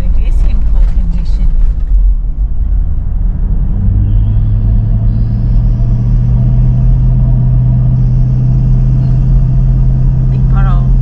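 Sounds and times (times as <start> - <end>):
car engine drone: 0.0 - 11.0
road rumble: 0.0 - 11.0.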